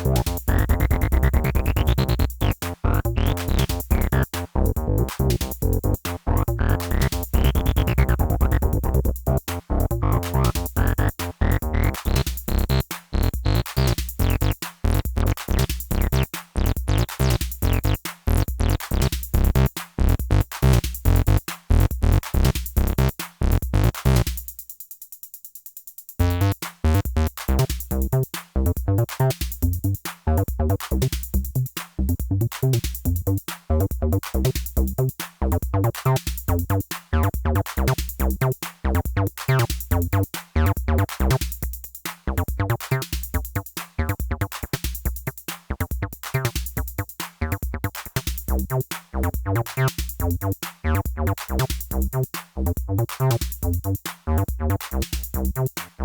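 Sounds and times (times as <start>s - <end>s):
sequenced synth bass lines: 0.0s - 24.2s, 26.2s - 41.4s, 42.3s - 44.6s, 45.7s - 55.7s
drum machine beat: 0.0s - 56.0s.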